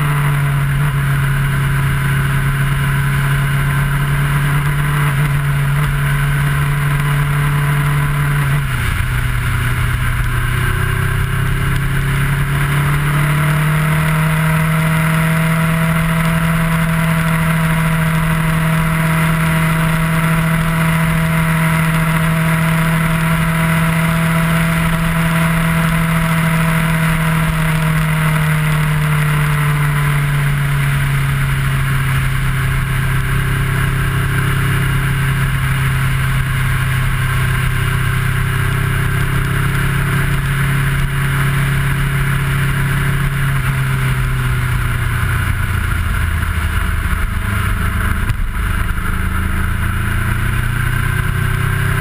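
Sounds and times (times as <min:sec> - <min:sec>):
motorcycle engine: 0:00.0 - 0:52.0
wind and road noise: 0:00.0 - 0:52.0.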